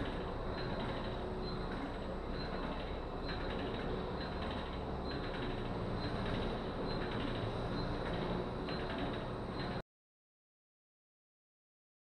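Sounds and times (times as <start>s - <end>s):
paddling machine mechanical whir: 0.0s - 9.8s.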